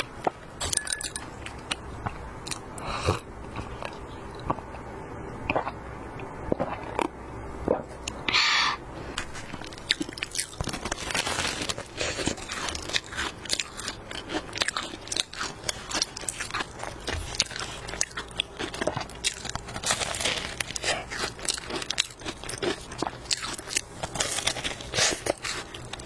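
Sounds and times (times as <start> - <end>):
chewing crisp pastry: 0.6 - 8.3, 9.0 - 26.0.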